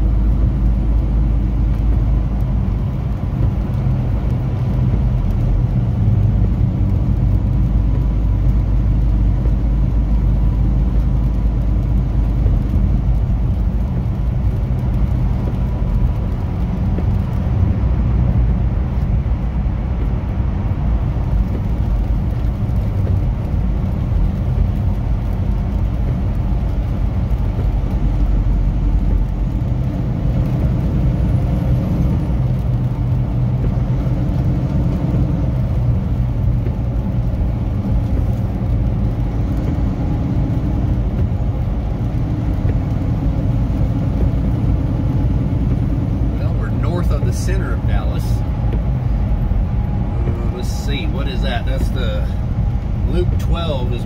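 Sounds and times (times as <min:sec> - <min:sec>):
diesel truck engine running: 0:00.0 - 0:54.0
road and tyre noise: 0:00.0 - 0:54.0.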